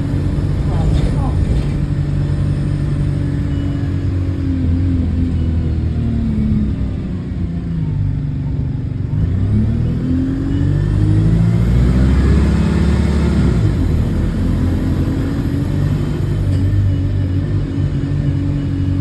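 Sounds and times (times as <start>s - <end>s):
bus engine accelerating: 0.0s - 19.0s.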